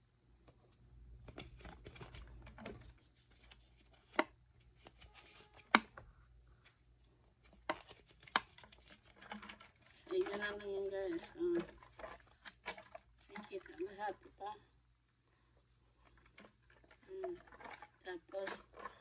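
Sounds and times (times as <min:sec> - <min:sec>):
shapes rustling inside plastic bottle: 0:01.2 - 0:19.0.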